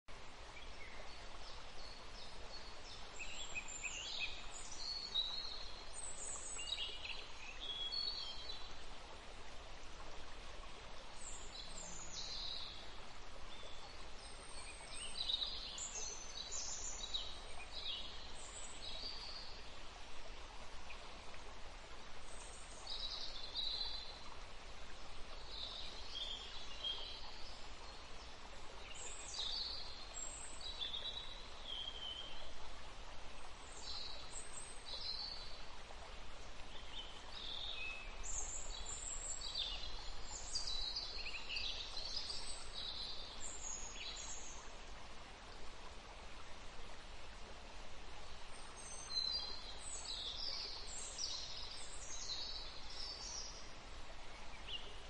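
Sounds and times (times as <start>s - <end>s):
steady background hiss: 0.1s - 55.0s.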